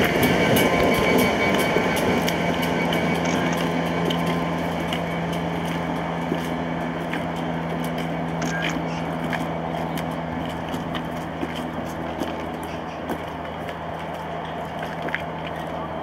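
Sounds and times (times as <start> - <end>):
locomotive diesel engine running: 0.0 - 16.0
track rumble: 0.0 - 16.0.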